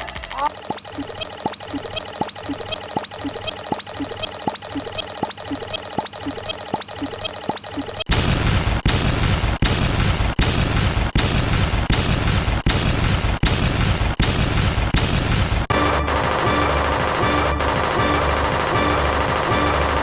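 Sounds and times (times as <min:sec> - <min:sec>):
harsh noisy looped sound effect: 0:00.0 - 0:12.0, 0:15.7 - 0:20.0.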